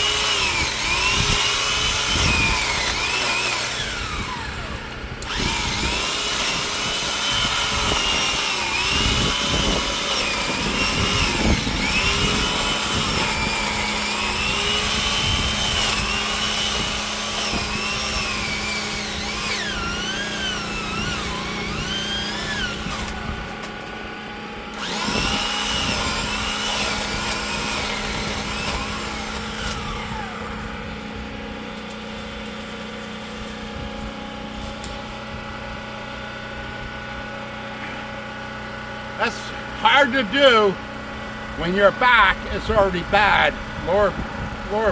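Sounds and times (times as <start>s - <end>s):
pole saw cutting branches: 0.0s - 44.9s.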